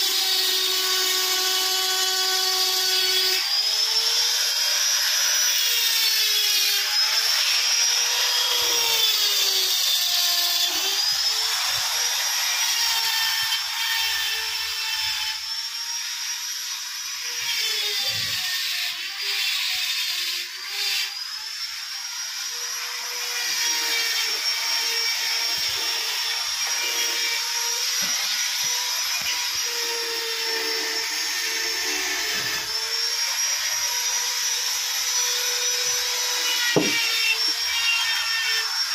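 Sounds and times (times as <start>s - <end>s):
die grinder whining on stone: 0.0s - 38.9s.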